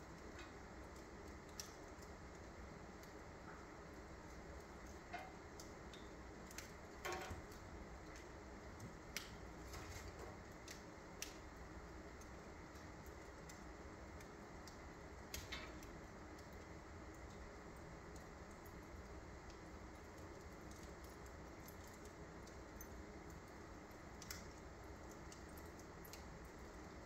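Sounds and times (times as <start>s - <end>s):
quiet steady background noise: 0.0s - 27.0s
wood fire crackling: 0.0s - 27.0s.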